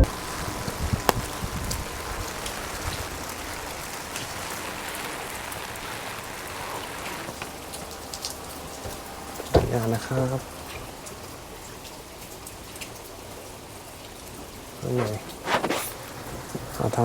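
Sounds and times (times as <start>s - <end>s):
rain falling: 0.0s - 17.0s
raindrops tapping: 0.0s - 17.0s.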